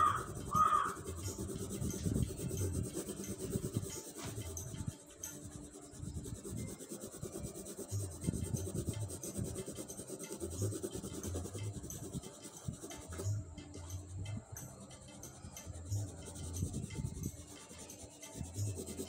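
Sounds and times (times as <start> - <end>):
coloured pencil rasping on paper: 0.0 - 13.2, 15.8 - 19.0.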